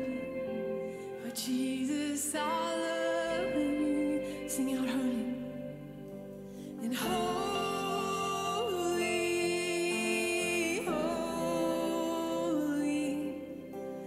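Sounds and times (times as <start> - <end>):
worship band playing softly: 0.0 - 14.0.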